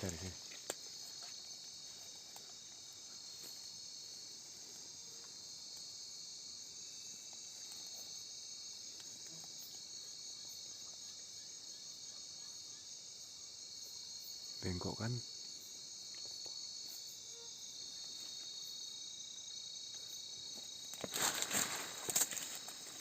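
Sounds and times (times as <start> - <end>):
night insects trilling: 0.0 - 23.0.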